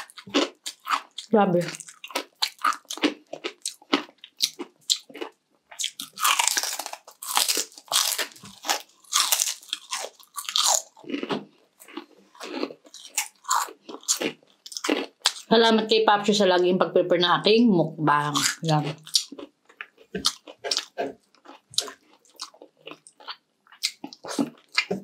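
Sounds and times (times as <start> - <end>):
crunchy chewing: 0.0 - 15.5, 18.3 - 25.0.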